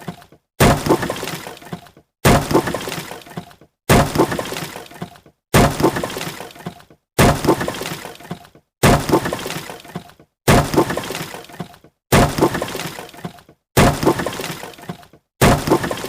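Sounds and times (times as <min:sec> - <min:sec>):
wood breaking and splintering: 0:00.0 - 0:16.0.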